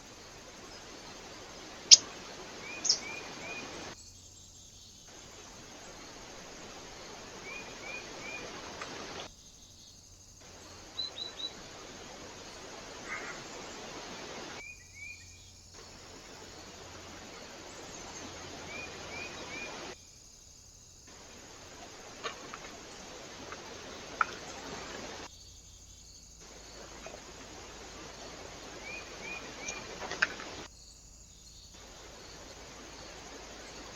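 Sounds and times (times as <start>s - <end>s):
small birds chirping: 0.0s - 6.1s, 7.2s - 16.5s, 17.2s - 20.2s, 21.1s - 33.9s
steady hiss: 0.0s - 33.9s.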